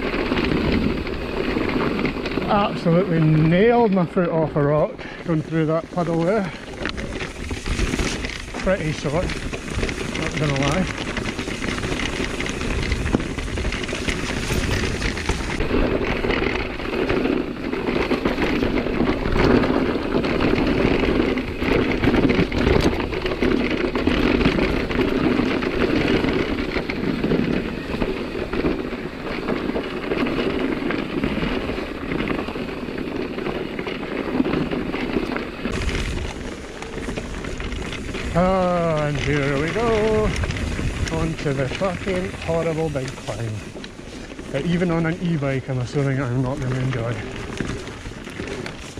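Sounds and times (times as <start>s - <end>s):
bike knocks and rattles: 0.0s - 48.9s
tyres rolling over dirt: 0.0s - 48.9s
wind on microphone: 0.0s - 48.9s.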